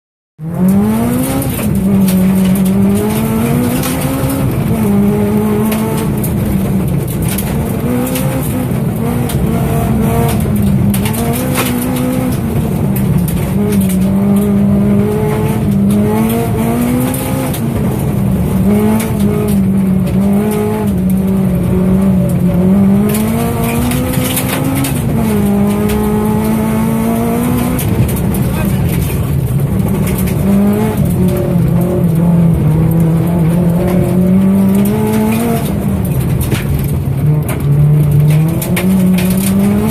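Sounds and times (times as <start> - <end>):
rally car engine revving: 0.4 - 39.9.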